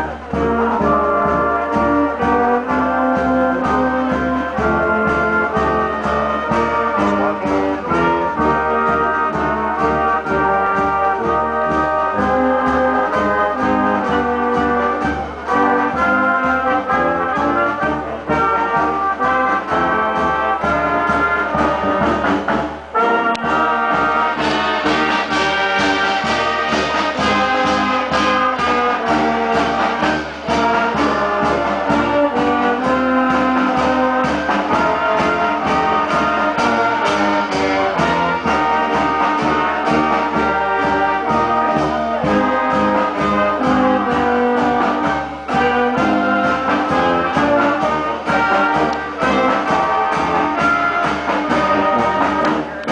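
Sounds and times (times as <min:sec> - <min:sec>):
wind band playing a tune: 0:00.0 - 0:52.9.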